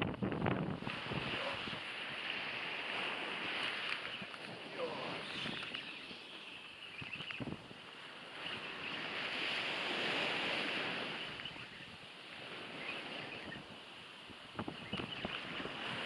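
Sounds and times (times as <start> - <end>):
sea waves washing on shore: 0.0 - 16.0
wind on microphone: 0.0 - 16.0.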